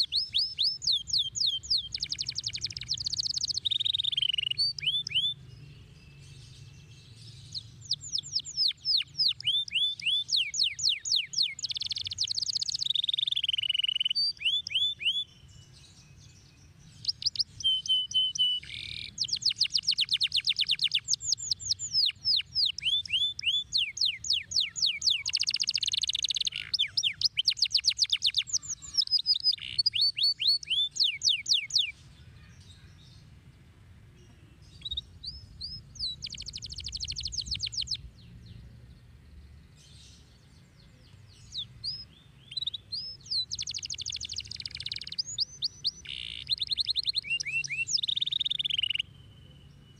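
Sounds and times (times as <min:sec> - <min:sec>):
canary singing fast trills: 0:00.0 - 0:49.9.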